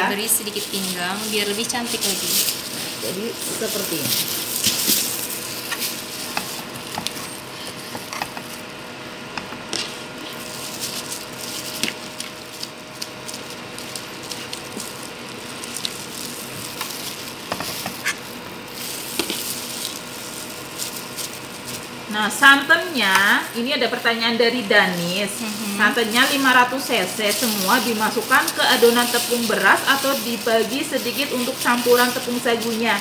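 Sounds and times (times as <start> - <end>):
leaves rustling and crackling: 0.0 - 8.7, 10.0 - 33.0.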